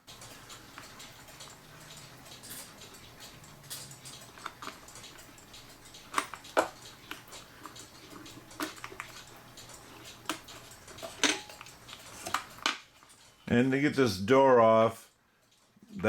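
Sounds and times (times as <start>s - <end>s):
clock parts clicking and knocking: 0.0s - 13.4s.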